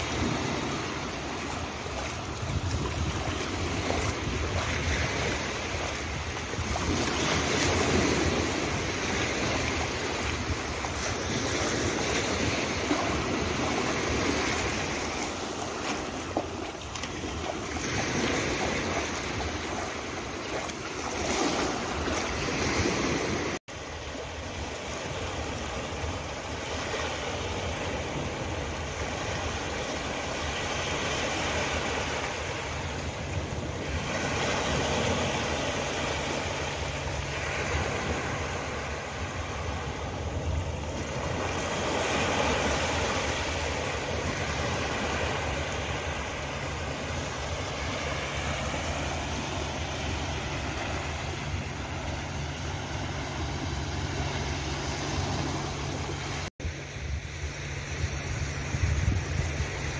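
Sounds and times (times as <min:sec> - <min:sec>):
small waves washing on beach: 0:00.0 - 0:59.9
surf: 0:00.0 - 0:59.9.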